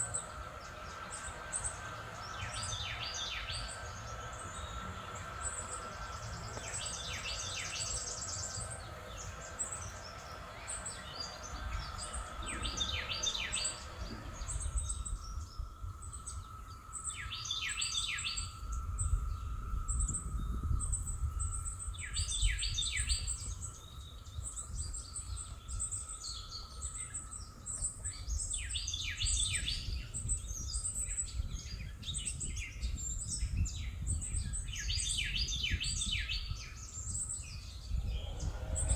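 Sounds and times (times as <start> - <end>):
faint steady hum: 0.0 - 38.9
low outdoor rumble: 0.0 - 38.9
songbirds chirping: 0.0 - 38.9.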